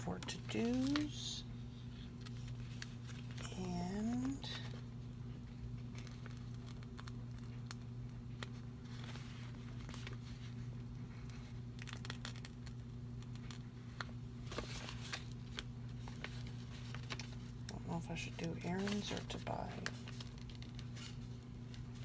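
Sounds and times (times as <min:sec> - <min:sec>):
paper rustling and crinkling: 0:00.0 - 0:04.8, 0:05.4 - 0:22.0
low hum: 0:00.0 - 0:22.0.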